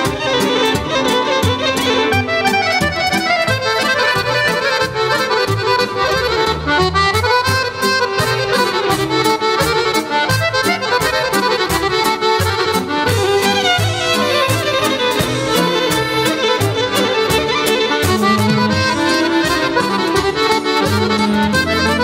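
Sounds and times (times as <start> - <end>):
folk accordion music: 0.0 - 22.0.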